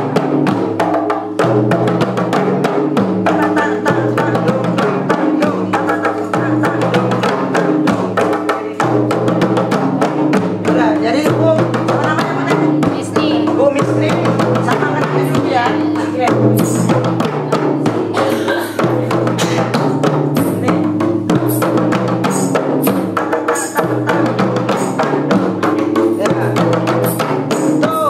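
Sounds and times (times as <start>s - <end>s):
frame drums struck by hand: 0.0s - 28.0s.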